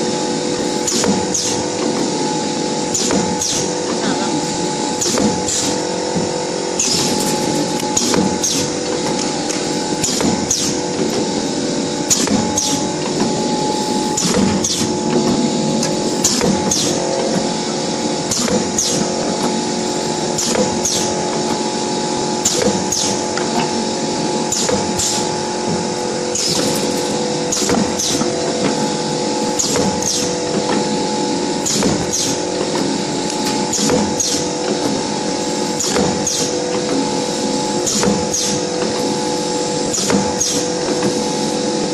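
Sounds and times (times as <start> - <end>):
machine humming: 0.0 - 41.9.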